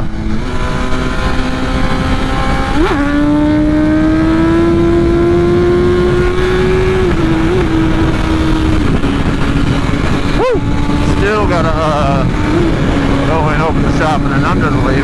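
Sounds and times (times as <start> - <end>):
motorcycle engine running: 0.0 - 15.0
wind noise: 0.0 - 15.0.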